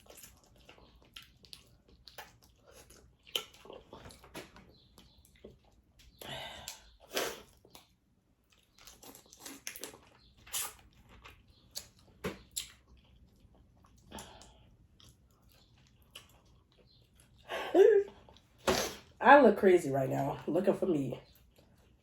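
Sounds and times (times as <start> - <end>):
person chewing food: 0.0 - 19.2, 21.2 - 22.0.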